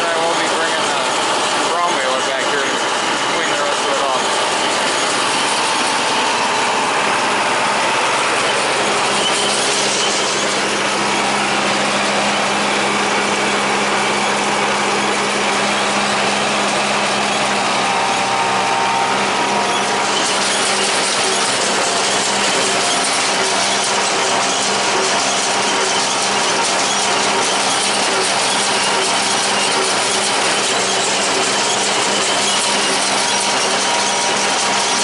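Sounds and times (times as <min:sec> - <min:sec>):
hay baler working: 0:00.0 - 0:35.0
tractor running under load: 0:00.0 - 0:35.0.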